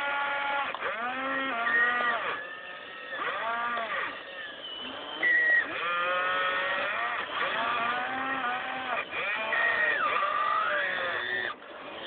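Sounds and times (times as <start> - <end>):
toy excavator motors whining: 0.0 - 12.0.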